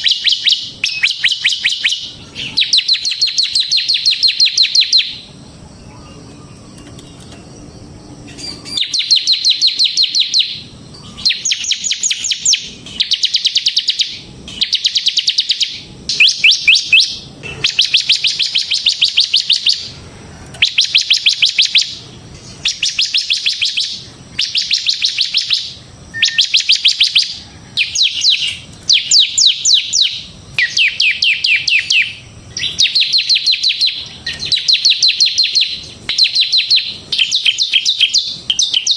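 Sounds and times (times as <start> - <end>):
bird singing fast high trills: 0.0 - 6.6, 7.6 - 20.0, 20.6 - 38.9.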